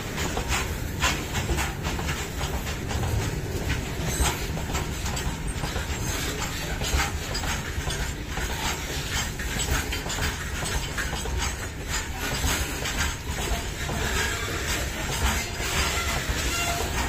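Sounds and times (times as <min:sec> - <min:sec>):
low rumble of train: 0:00.0 - 0:17.0
train wheels clacking over rail joints: 0:00.0 - 0:17.0.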